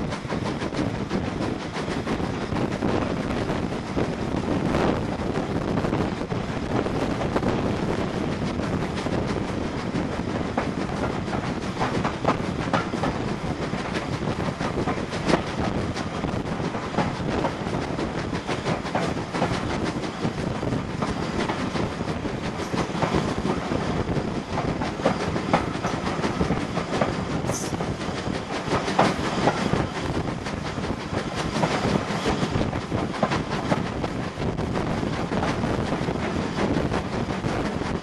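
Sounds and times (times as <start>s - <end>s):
train rumble and air rush: 0.0s - 38.0s.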